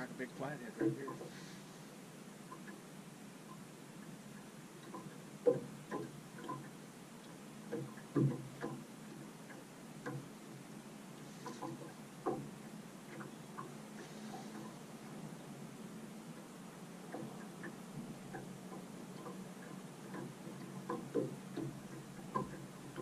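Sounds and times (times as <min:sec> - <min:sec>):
faint steady hiss: 0:00.0 - 0:23.0
light knocks and ticks on boat: 0:00.0 - 0:23.0.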